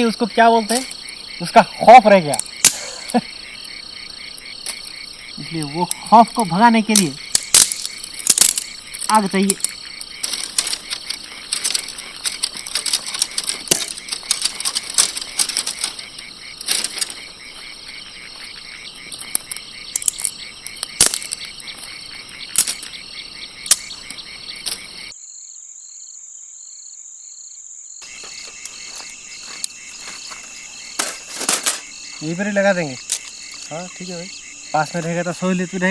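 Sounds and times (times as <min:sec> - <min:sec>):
twigs snapping and crackling: 0:00.0 - 0:25.1, 0:28.0 - 0:35.3
frogs and insects chorus: 0:00.0 - 0:35.9.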